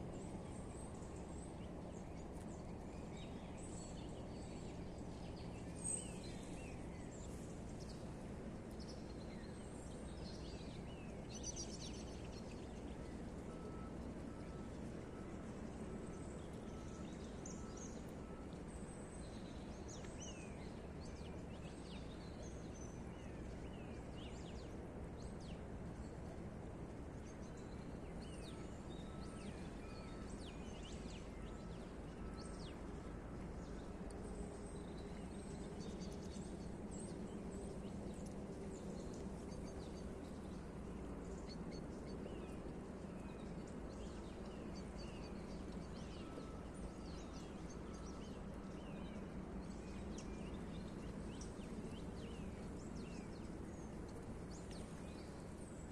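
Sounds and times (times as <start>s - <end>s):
low background noise: 0.0s - 55.9s.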